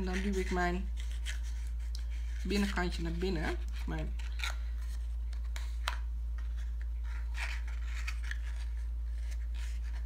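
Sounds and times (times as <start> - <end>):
card rustling: 0.0 - 10.0
constant low hum: 0.0 - 10.0.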